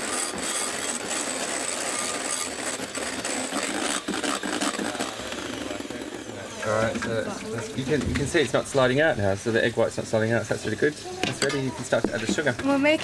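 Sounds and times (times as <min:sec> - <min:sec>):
electric hand mixer whisking: 0:00.0 - 0:13.0.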